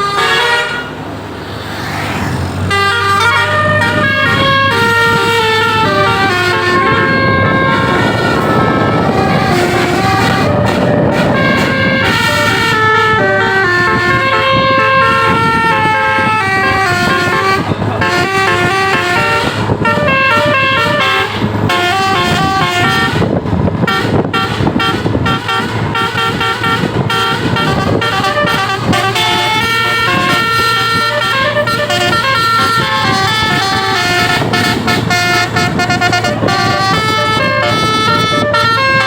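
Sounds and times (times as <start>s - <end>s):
multi-tone air horn melody: 0.0s - 1.0s, 2.7s - 39.0s
bus engine running: 0.0s - 39.0s.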